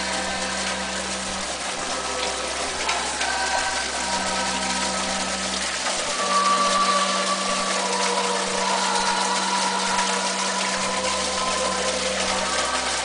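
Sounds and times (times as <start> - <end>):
electric motors humming: 0.0 - 13.0
running water: 0.0 - 13.0.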